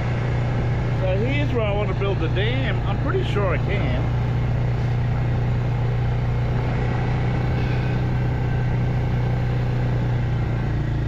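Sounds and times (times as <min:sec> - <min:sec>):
atv engine humming: 0:00.0 - 0:11.0.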